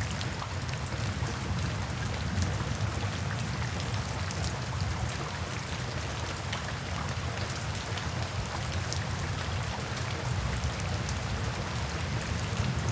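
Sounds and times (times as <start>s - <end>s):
rain on a tin roof: 0.0s - 12.9s.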